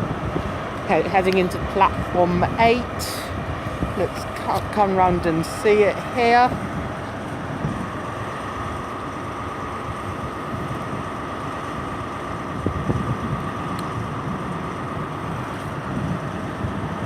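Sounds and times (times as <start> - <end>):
diesel train engines rumbling: 0.0 - 17.0
high whine: 0.0 - 17.0.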